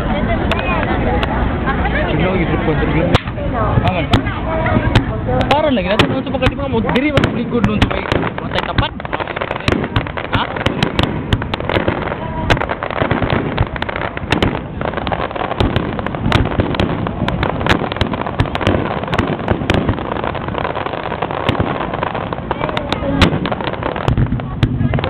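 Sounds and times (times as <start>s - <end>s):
continuous fireworks crackle: 0.0s - 25.0s
fireworks popping and banging: 0.1s - 25.0s.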